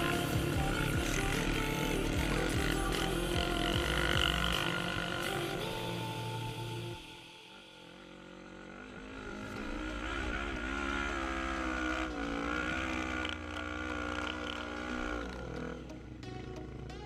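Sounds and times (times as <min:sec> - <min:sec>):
quad bike engine revving: 0:00.0 - 0:17.0.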